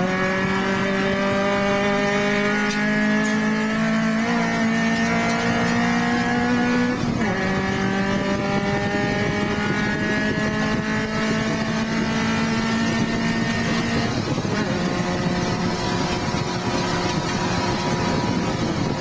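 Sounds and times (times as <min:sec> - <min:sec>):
race car engine at full throttle: 0:00.0 - 0:19.0
road noise: 0:00.0 - 0:19.0
wind noise: 0:00.0 - 0:19.0.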